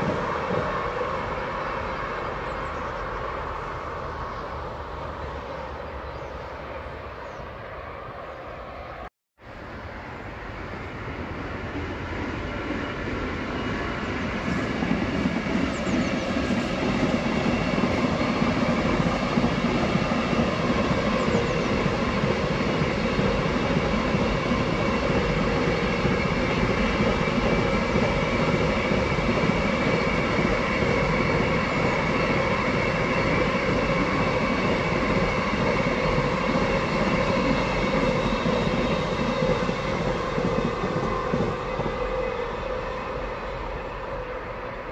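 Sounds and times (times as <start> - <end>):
train wheels rolling on rails: 0.0 - 8.2, 9.8 - 44.9.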